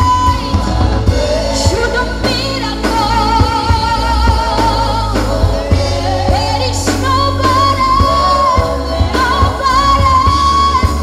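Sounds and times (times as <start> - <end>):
band with drums and electric guitar: 0.0 - 11.0
woman singing: 0.0 - 11.0.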